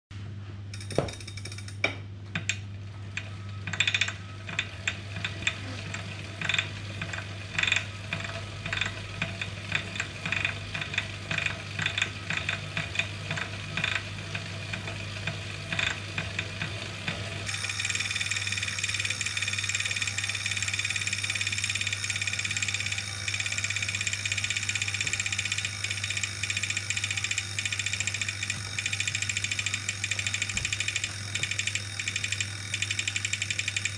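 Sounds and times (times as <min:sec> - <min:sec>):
bike trainer low hum: 0:00.2 - 0:33.9
irregular clicking and ticking: 0:00.7 - 0:33.9.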